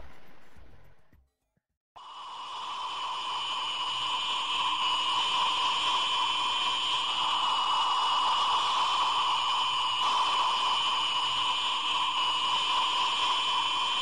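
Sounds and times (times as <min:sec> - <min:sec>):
electronic hum with high tones: 0:02.0 - 0:14.0
hiss: 0:02.0 - 0:14.0.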